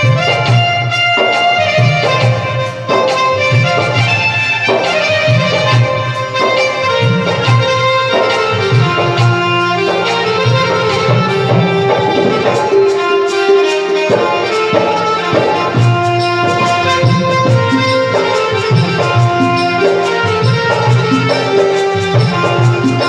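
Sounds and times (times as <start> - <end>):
hand drum beat: 0.0 - 23.0
reedy melody: 0.0 - 23.0.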